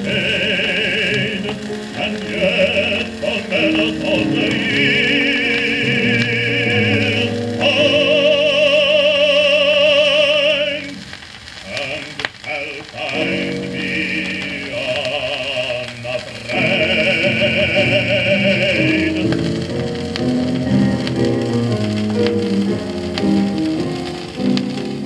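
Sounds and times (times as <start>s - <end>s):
baritone operatic singing: 0.0s - 20.5s
record surface hiss: 0.0s - 25.0s.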